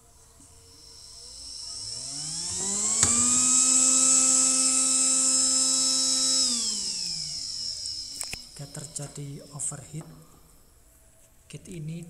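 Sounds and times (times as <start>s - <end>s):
small cooling fan whining: 0.0s - 12.0s.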